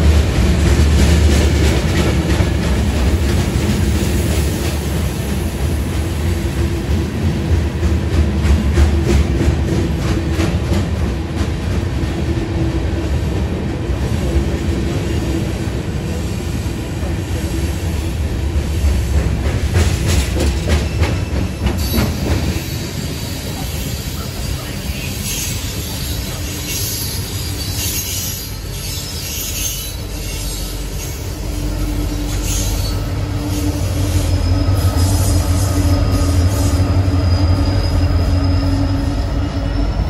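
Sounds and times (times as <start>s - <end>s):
freight train wheels rumbling: 0.0s - 40.0s.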